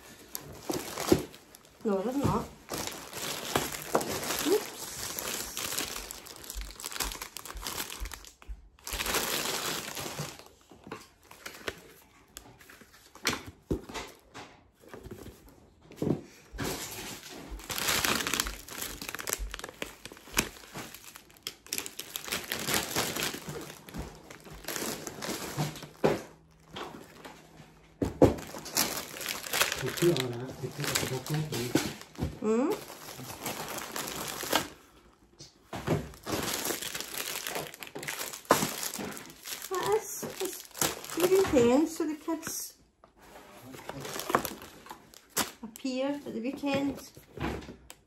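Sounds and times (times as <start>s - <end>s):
plastic packaging crinkling: 0.0s - 13.2s, 16.6s - 27.5s, 28.3s - 35.0s, 36.0s - 42.5s, 43.6s - 46.0s.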